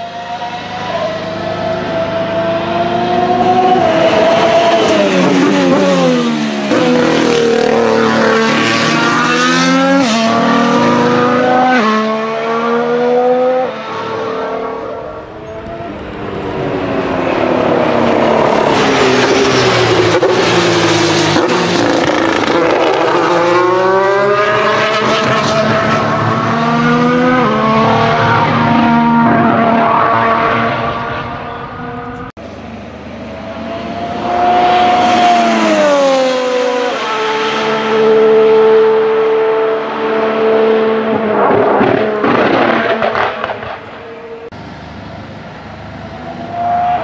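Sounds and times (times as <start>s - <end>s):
racing car engine revving: 0.0s - 44.6s.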